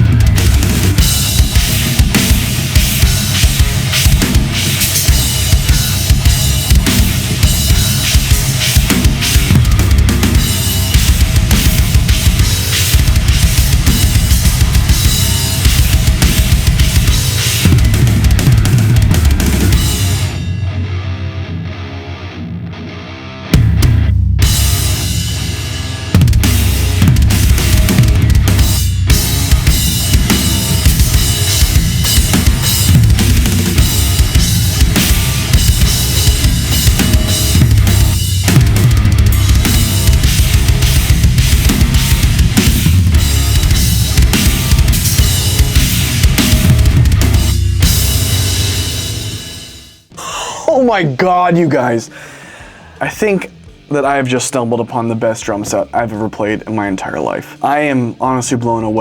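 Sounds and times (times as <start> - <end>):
drum kit played hard: 0.0 - 21.3, 23.5 - 54.9
rock backing track: 0.0 - 59.0.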